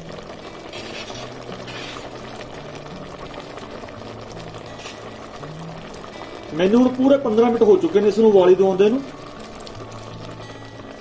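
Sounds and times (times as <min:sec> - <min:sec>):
water bubbling in a pot: 0:00.0 - 0:11.0.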